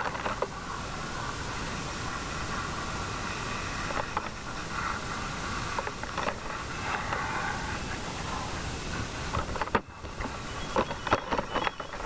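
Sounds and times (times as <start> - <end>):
fire hose spraying water: 0.0 - 12.0.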